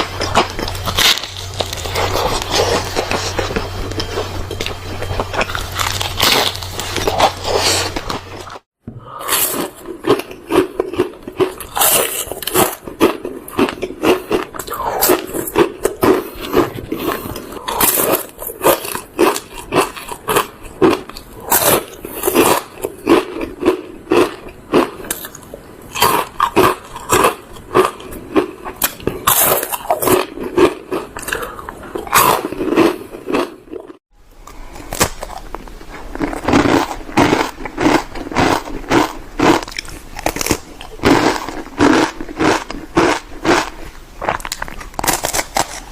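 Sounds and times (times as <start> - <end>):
chewing crispy food: 0.0 - 8.7, 9.3 - 45.9.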